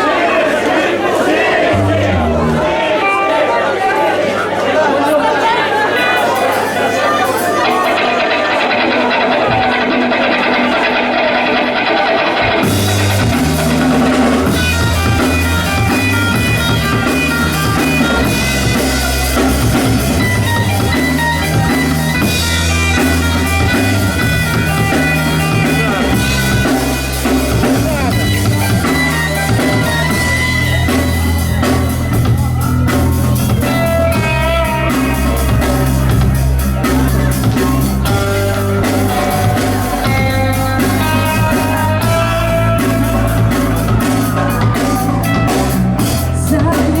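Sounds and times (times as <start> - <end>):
rock band playing live: 1.4 - 3.8, 5.4 - 47.0.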